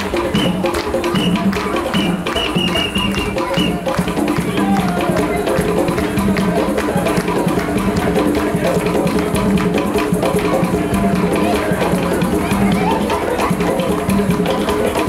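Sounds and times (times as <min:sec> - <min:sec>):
hand drumming: 0:00.0 - 0:15.0.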